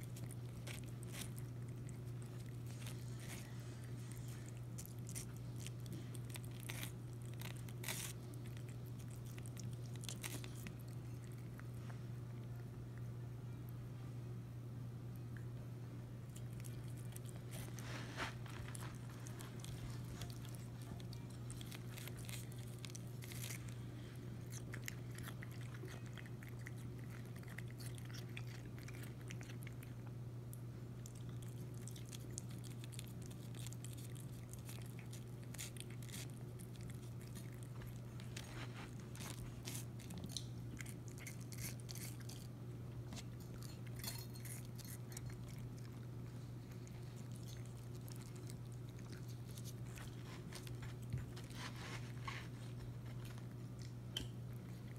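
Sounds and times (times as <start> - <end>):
cat chewing watermelon: 0.0 - 13.7, 16.1 - 54.9
steady low hum: 0.0 - 54.9.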